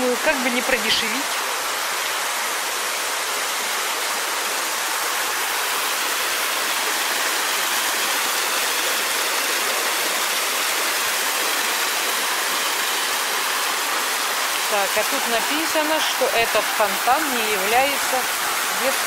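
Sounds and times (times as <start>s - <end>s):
fountain splashing: 0.0s - 19.0s.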